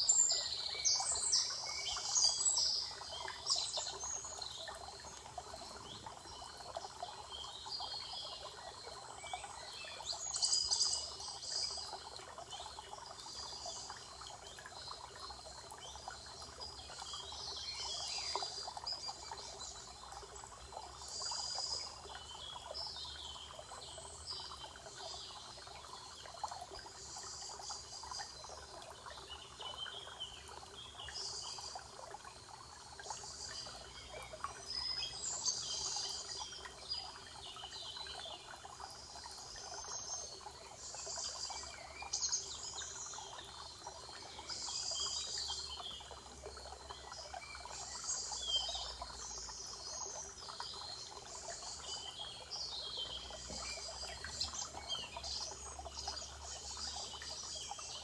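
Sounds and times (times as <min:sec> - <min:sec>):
songbirds chirping and trilling: 0:00.0 - 0:58.0
trickling water: 0:00.0 - 0:58.0.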